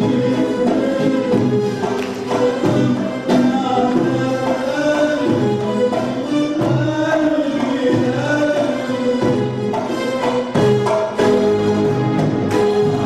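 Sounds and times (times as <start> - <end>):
hand-drum strokes: 0.0 - 13.0.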